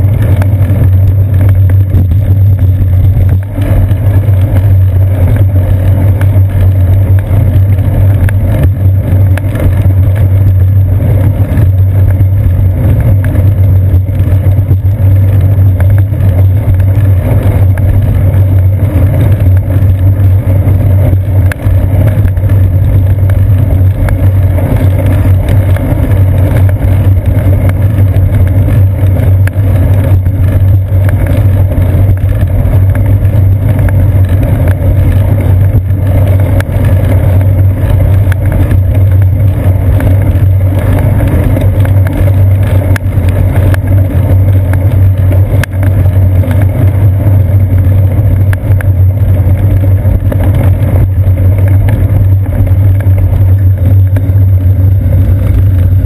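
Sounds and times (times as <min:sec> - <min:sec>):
road vibration rumble: 0:00.0 - 0:56.0
wind noise: 0:00.0 - 0:56.0.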